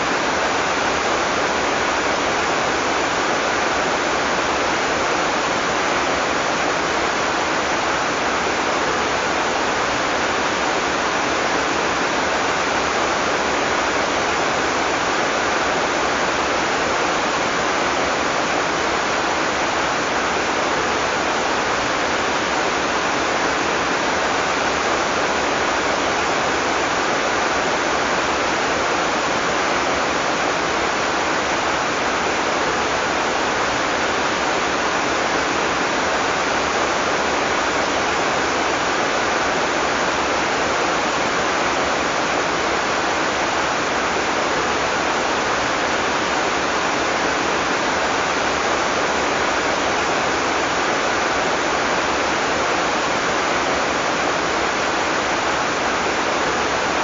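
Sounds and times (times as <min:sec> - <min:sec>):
heavy rain downpour: 0:00.0 - 0:57.0.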